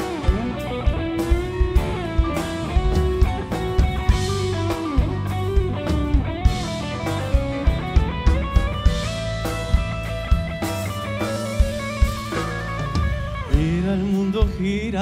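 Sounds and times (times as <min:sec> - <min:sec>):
electric guitar solo: 0:00.0 - 0:13.7
drum kit beat: 0:00.0 - 0:15.0.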